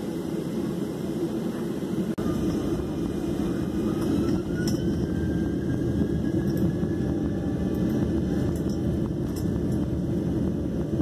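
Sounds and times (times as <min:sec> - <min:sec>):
aircraft engine and rolling rumble: 0:00.0 - 0:11.0.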